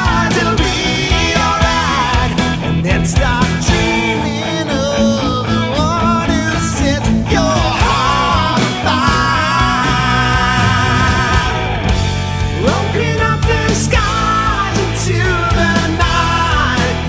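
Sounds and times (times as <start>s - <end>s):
rock song with wavering lead: 0.0s - 17.0s.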